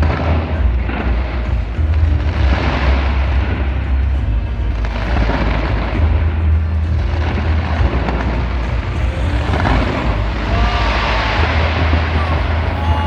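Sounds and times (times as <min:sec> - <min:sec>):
fireworks booms and crackle: 0:00.0 - 0:13.0
heavy low rumble: 0:00.0 - 0:13.0.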